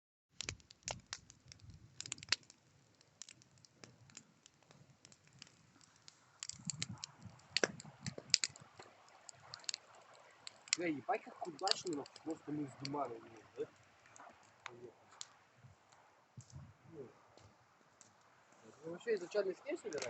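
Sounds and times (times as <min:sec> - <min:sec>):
campfire crackling: 0:00.3 - 0:20.0.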